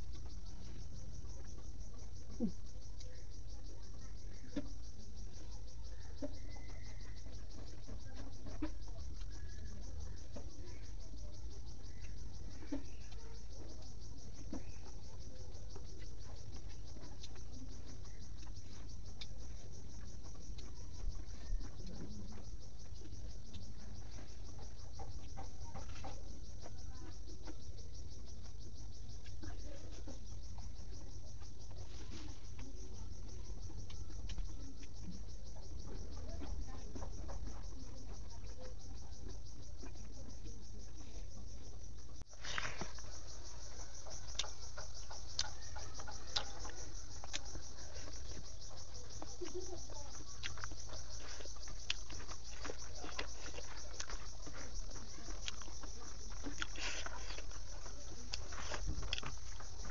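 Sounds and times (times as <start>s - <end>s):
faint chewing: 0.0s - 59.9s
insect trill: 0.0s - 59.9s.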